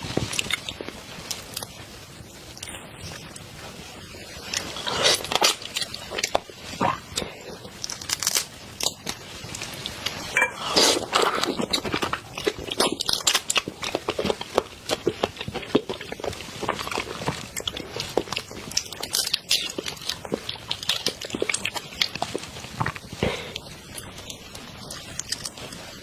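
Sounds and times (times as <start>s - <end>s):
prawn shells crackling: 0.0s - 26.0s
biting and chewing: 4.4s - 26.0s.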